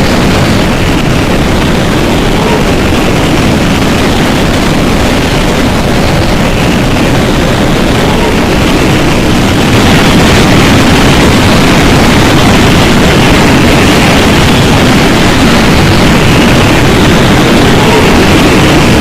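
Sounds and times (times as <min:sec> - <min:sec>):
roar of tornado winds: 0:00.0 - 0:19.0.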